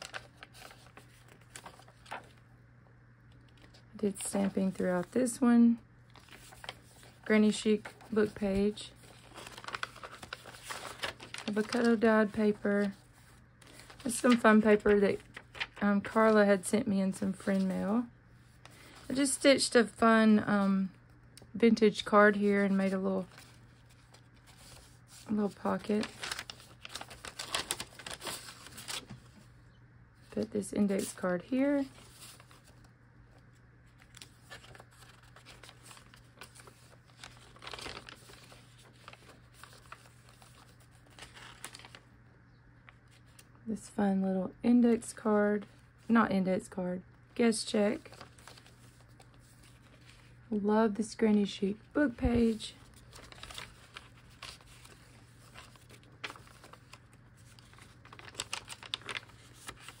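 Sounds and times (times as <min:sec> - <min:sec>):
paper pages rustling: 0:00.0 - 0:02.5, 0:03.3 - 0:19.7, 0:22.3 - 0:29.5, 0:30.2 - 0:42.1, 0:42.8 - 0:43.6, 0:47.9 - 0:50.4, 0:51.8 - 1:00.0.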